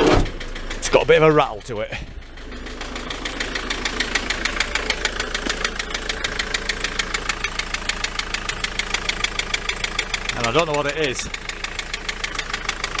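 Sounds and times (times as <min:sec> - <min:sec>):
diesel engine idling: 0:00.0 - 0:13.0
fast engine rattle ticking: 0:00.0 - 0:13.0.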